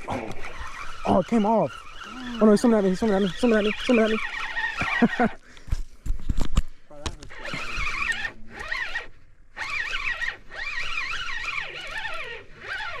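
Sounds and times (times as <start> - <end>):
fishing reel whirring: 0.0 - 5.4, 7.2 - 13.0.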